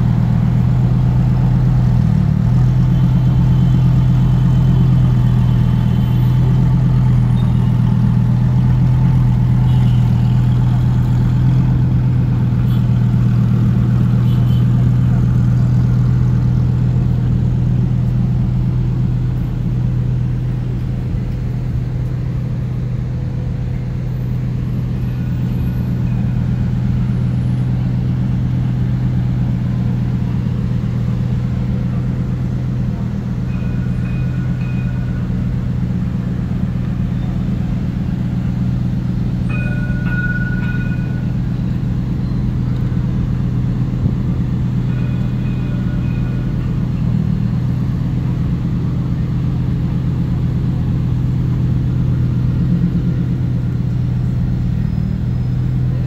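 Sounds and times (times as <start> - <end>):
low engine-like hum: 0.0 - 56.0.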